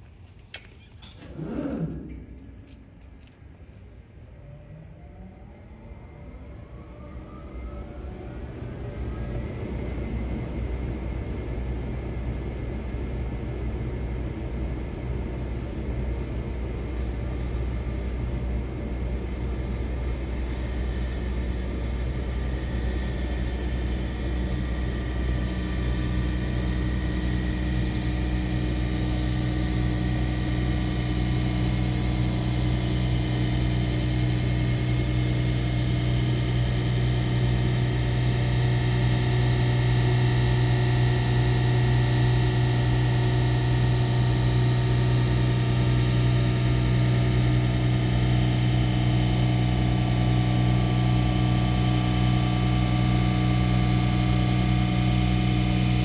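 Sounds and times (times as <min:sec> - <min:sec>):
lathe humming and whining: 0:04.1 - 0:56.0.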